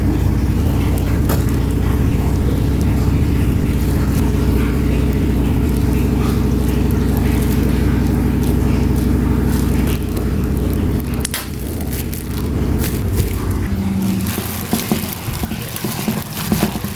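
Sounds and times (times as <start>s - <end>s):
loud low hum: 0.0s - 16.9s.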